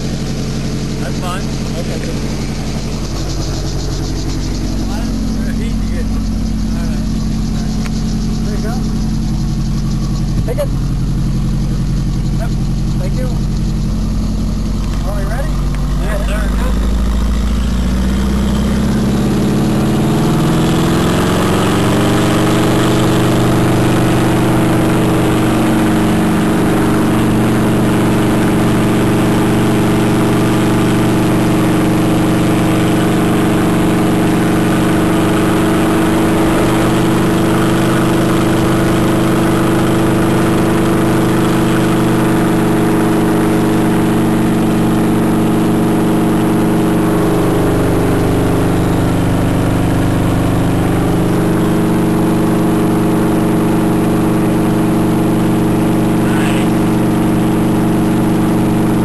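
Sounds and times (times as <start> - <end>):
helicopter engine and rotor: 0.0 - 59.0.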